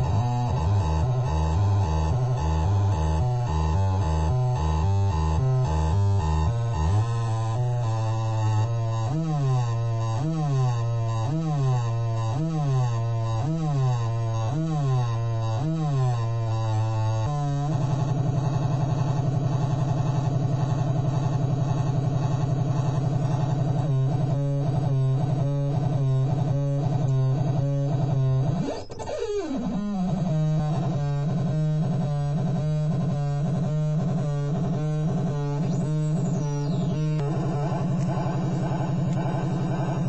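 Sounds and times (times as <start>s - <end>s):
buzzy distorted synthesizer drone: 0.0s - 40.0s.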